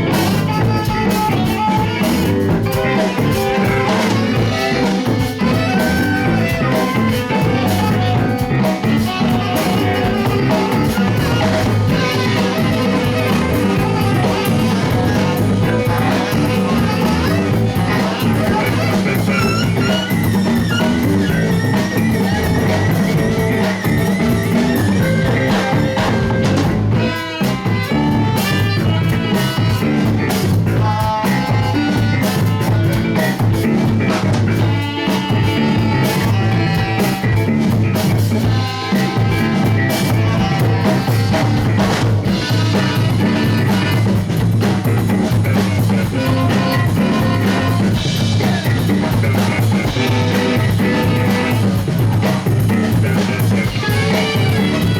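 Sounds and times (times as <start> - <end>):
bass line: 0.0 - 54.9
drum kit: 0.0 - 54.9
electric guitar: 0.0 - 54.9.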